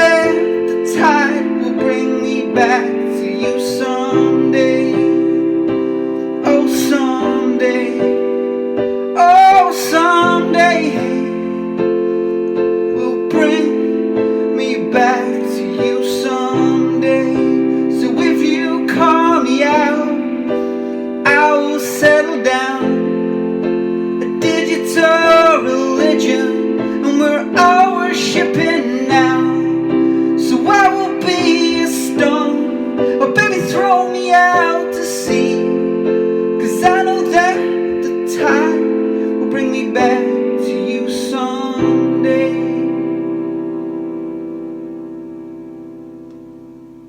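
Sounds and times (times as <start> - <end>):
keyboard playing piano chords: 0.0 - 47.0.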